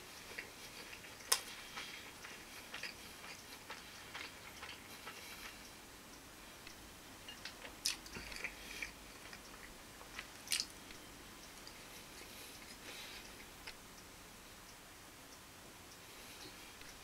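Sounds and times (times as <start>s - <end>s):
man chewing food: 0.0s - 14.1s, 15.9s - 17.0s.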